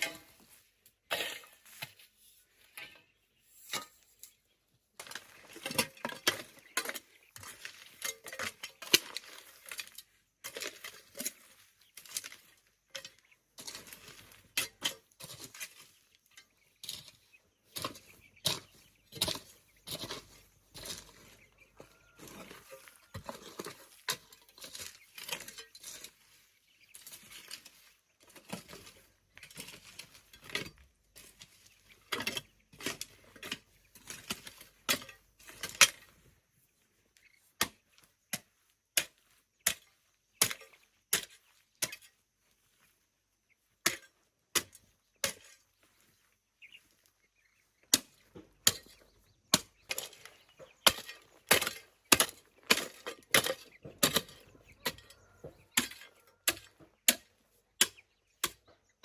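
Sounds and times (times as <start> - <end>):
scrapes: 0.0 - 58.0.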